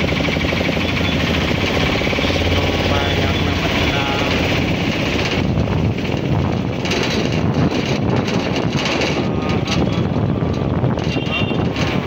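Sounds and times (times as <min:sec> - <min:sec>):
vehicle rumble: 0:00.0 - 0:12.0
wind buffeting microphone: 0:00.0 - 0:12.0.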